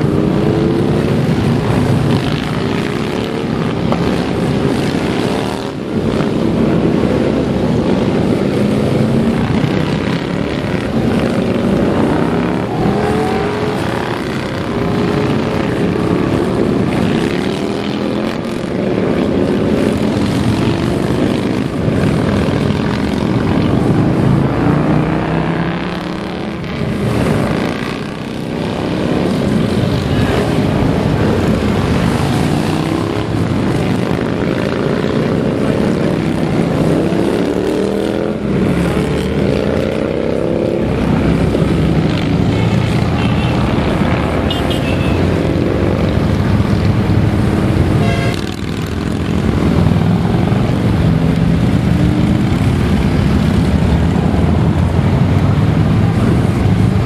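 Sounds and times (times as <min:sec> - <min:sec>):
motorcycle engines rumbling past: 0:00.0 - 0:57.0.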